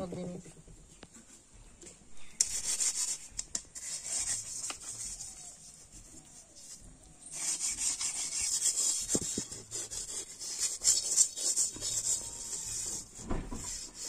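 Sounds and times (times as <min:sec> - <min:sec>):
hands rubbing mud on clay pot: 0:02.4 - 0:14.0.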